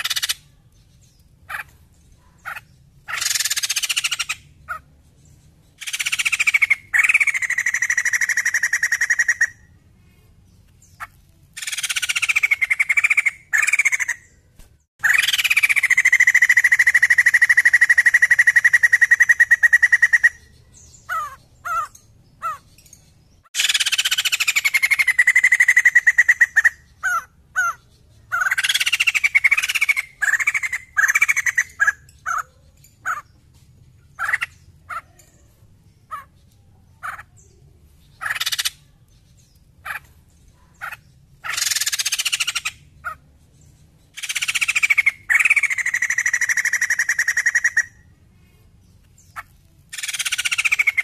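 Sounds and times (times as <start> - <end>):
bird calling with rattling notes: 0.0 - 9.8, 10.5 - 48.2, 48.8 - 51.0.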